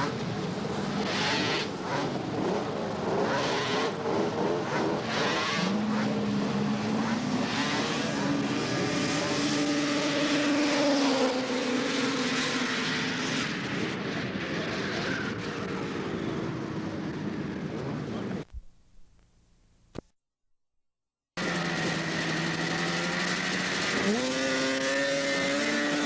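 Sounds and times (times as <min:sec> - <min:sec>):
snowmobile engine at full throttle: 0:00.0 - 0:18.2, 0:21.4 - 0:26.0.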